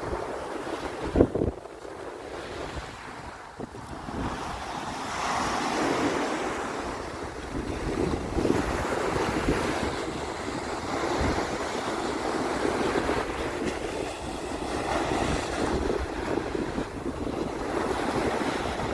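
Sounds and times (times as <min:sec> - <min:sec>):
sea waves on sandy beach: 0:00.0 - 0:18.9.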